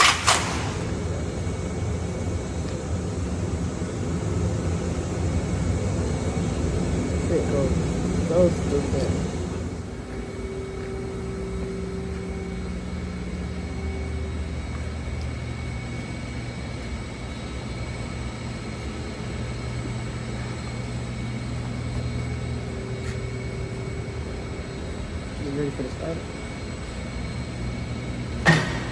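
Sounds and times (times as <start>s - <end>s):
low mechanical drone: 0.0s - 28.9s
held low tones: 0.8s - 28.9s.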